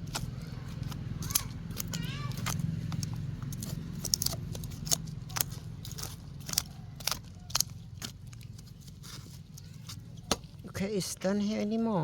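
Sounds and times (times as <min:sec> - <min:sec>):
sharp dry crunches and clicks: 0:00.0 - 0:10.8.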